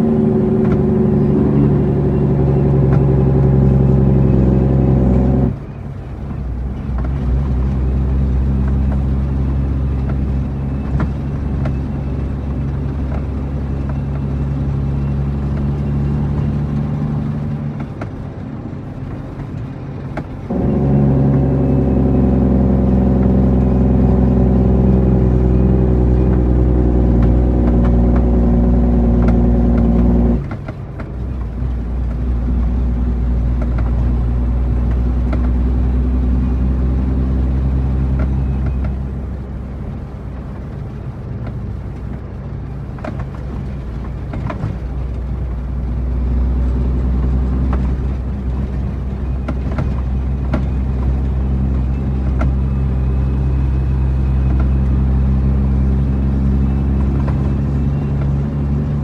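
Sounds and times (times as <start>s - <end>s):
truck diesel engine pulling: 0.0s - 59.0s.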